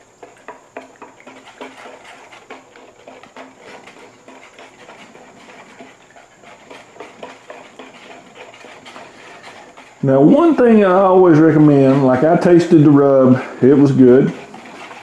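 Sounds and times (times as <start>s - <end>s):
liquid swishing: 0.0s - 15.0s
whisk clicking against plastic bowl: 0.2s - 13.0s, 13.8s - 15.0s.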